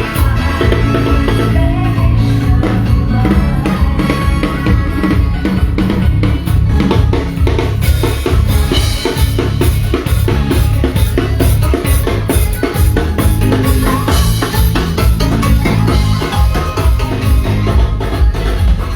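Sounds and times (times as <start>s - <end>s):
live band playing: 0.0s - 18.9s.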